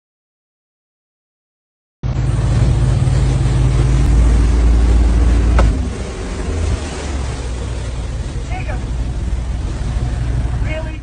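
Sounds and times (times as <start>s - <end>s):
motorboat engine rumbling: 2.0s - 11.0s
wind and water rush: 2.0s - 11.0s.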